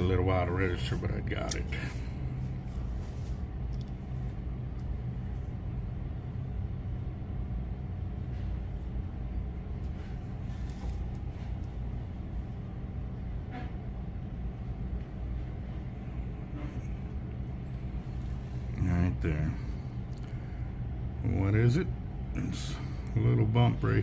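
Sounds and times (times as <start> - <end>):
low motor rumble: 0.0 - 24.0.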